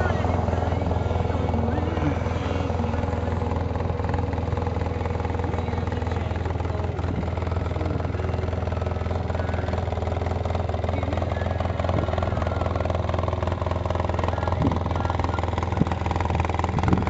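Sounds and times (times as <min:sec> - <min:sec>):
engine idling with low hum: 0:00.0 - 0:17.0.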